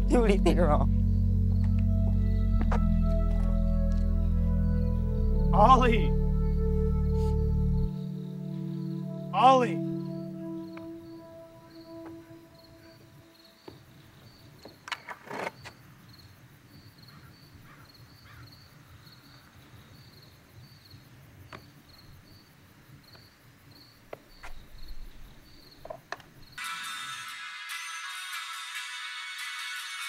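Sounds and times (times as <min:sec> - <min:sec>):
crickets chirping: 0:00.0 - 0:26.7.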